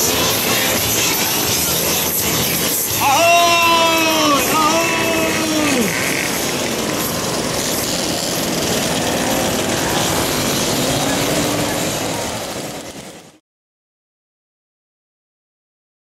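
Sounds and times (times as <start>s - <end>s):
mopeds and motorcycles buzzing past: 0.0s - 13.4s
motorcycle passing close: 0.0s - 13.4s.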